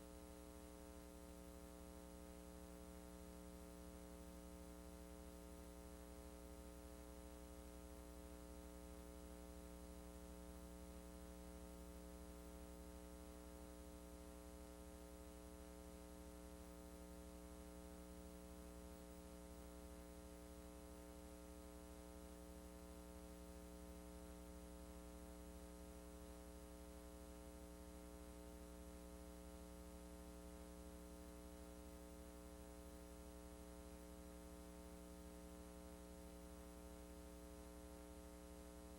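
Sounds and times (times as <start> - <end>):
faint mains hum with hiss: 0.0 - 38.9.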